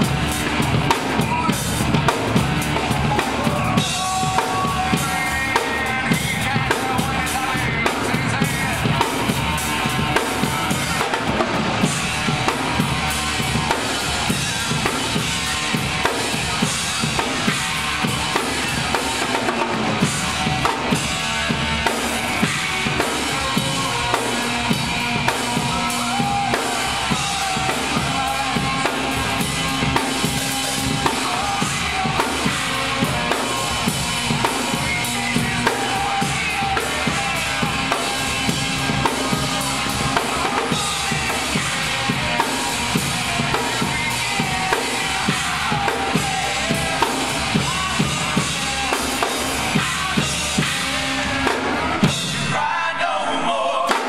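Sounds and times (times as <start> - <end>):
drum kit playing fast: 0.0 - 54.0.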